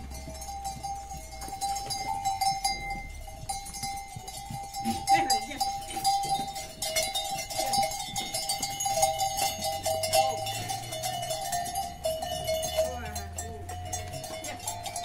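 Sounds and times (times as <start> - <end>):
goat bells clinking: 0.0 - 15.0.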